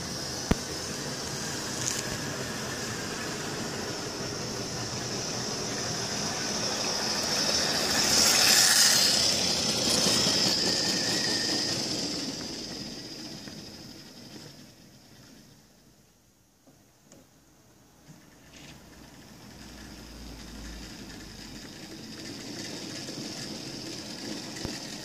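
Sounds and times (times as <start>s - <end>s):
wagon wheels rolling on rails: 0.0s - 15.6s, 18.2s - 25.0s
model train motor: 0.0s - 15.9s, 18.1s - 25.0s.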